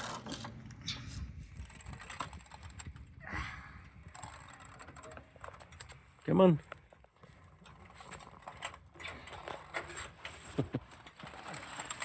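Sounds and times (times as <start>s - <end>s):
floor jack clicking and creaking: 0.0s - 12.0s.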